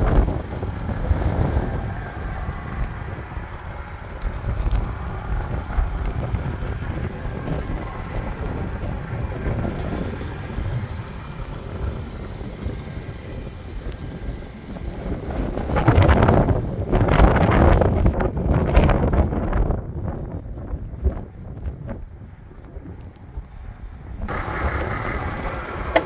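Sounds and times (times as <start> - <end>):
diesel engine running: 0.0 - 21.0, 22.2 - 26.0.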